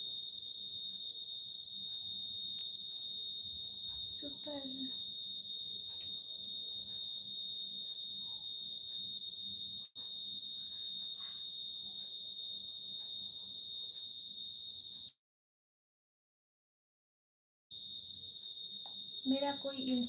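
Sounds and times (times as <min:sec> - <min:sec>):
cricket trilling: 0:00.0 - 0:15.2, 0:17.7 - 0:20.0.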